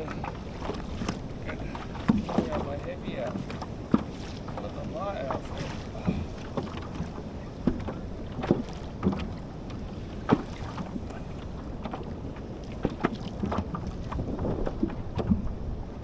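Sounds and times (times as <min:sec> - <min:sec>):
water slapping against kayak hull: 0:00.0 - 0:16.0
wind on microphone: 0:00.0 - 0:16.0.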